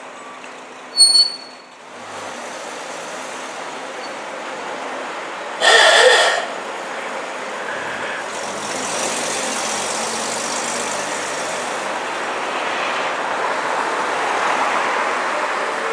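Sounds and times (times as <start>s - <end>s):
bus engine running: 1.7s - 15.9s
tyres hissing on road: 1.8s - 15.9s.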